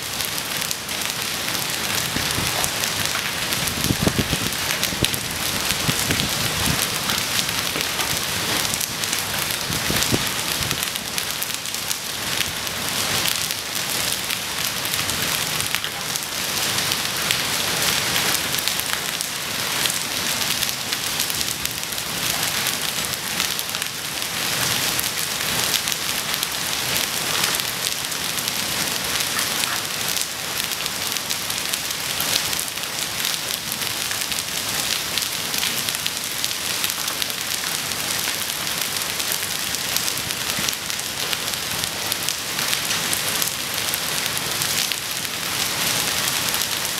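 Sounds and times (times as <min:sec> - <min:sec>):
hail and rain on pavement: 0:00.0 - 0:46.9.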